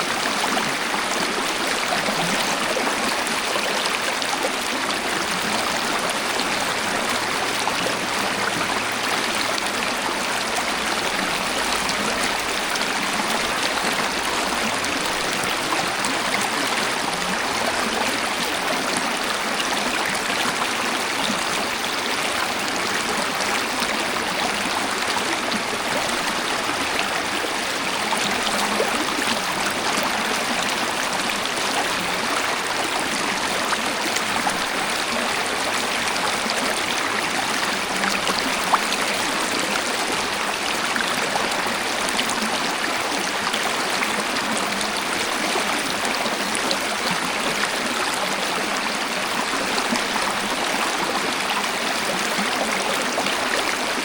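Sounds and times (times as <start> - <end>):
water splashes and trickles: 0.0 - 54.0.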